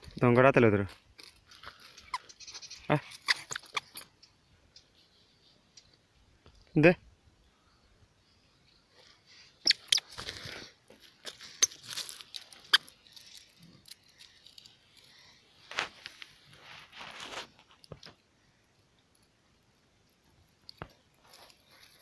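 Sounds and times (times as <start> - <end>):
dry plants rustling and crackling: 0.0 - 5.1, 9.0 - 22.0.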